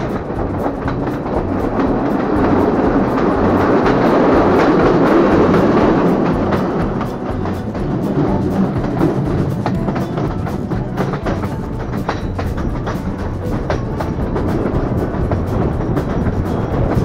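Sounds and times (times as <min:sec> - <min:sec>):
percussive background music: 0:00.0 - 0:17.0.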